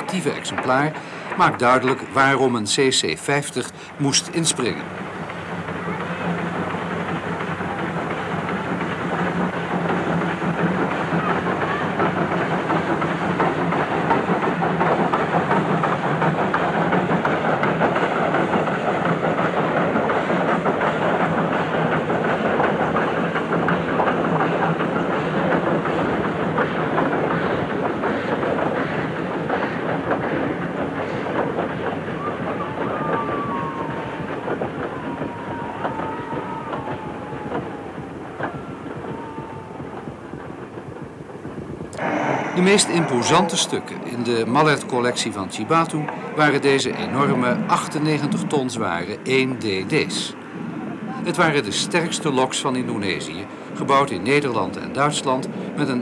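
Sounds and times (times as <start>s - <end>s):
steam locomotive exhaust chuffing: 0.0s - 56.0s
train carriages clattering: 0.0s - 56.0s.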